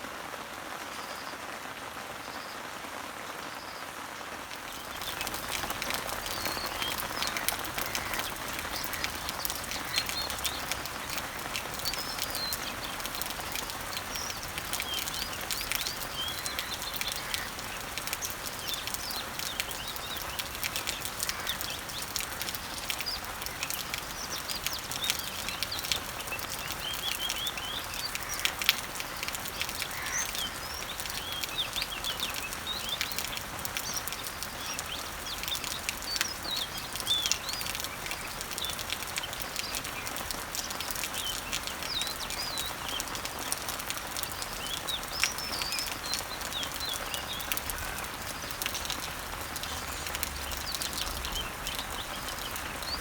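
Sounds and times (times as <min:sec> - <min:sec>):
rain falling on leaves: 0:00.0 - 0:53.0
birds chirping: 0:03.3 - 0:53.0.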